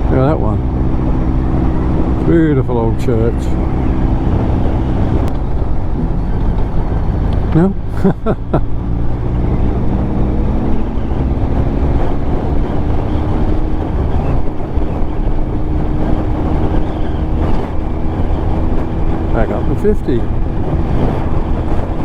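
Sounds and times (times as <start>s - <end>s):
motorcycle engine droning: 0.0s - 22.0s
wind rumble on microphone: 0.0s - 22.0s.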